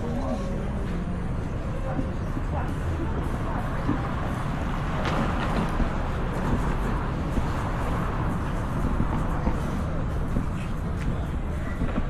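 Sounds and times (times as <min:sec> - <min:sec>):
urban traffic rumble: 0:00.0 - 0:12.0.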